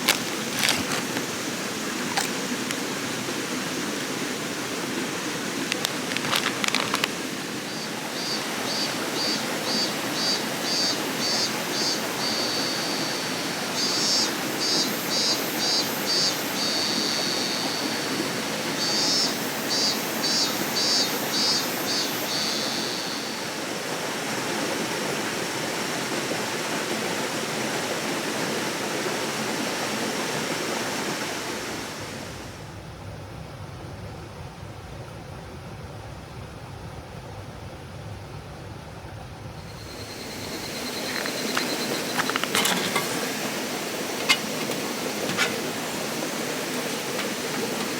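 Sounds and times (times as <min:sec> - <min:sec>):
water rushing in a stream: 0:00.0 - 0:32.6, 0:39.2 - 0:47.9.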